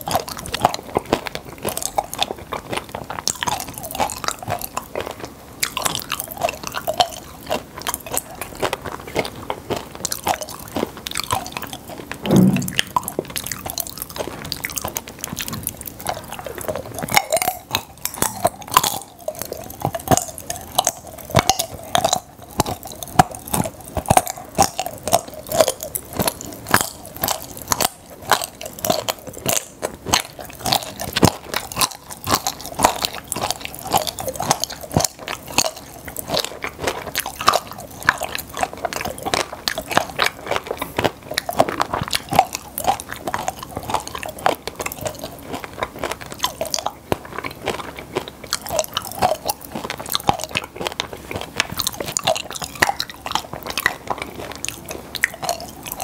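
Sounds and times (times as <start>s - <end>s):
chewing and crunching candy: 0.0s - 56.0s.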